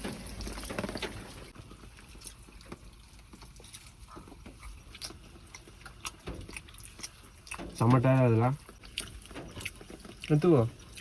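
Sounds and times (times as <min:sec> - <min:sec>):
rain drops dripping: 0:00.0 - 0:11.0.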